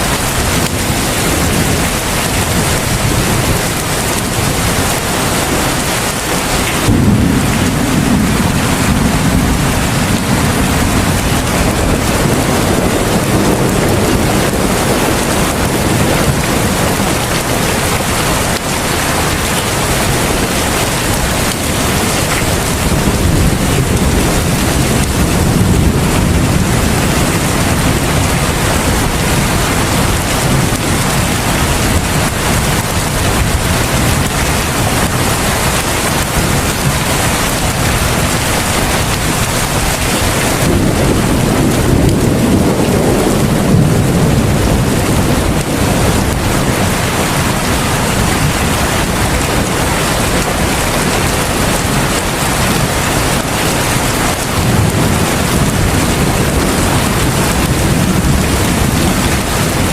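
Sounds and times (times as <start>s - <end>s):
deep rumble: 0.0s - 59.9s
heavy rain falling: 0.0s - 59.9s.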